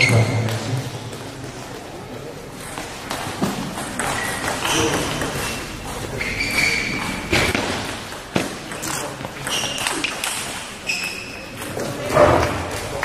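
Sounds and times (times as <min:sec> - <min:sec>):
sports shoes squeaking on floor: 0:00.0 - 0:01.2, 0:02.6 - 0:12.2.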